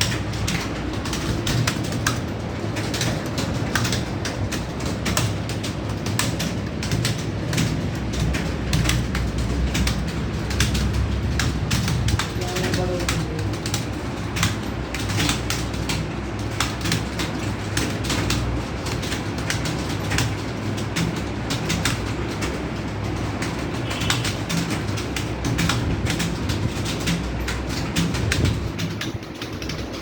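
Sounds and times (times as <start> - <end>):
keyboard typing clatter: 0.0 - 30.0
steady low hum: 0.0 - 30.0.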